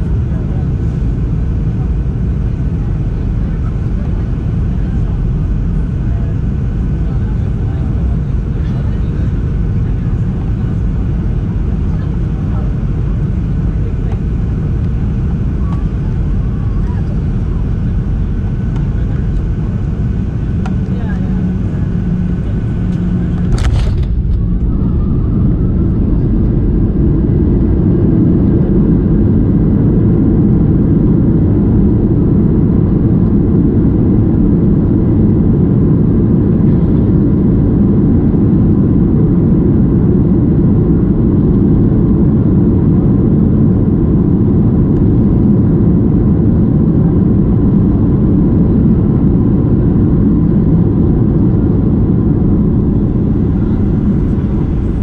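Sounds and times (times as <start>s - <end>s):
airplane engines rumbling in cabin: 0.0s - 55.0s.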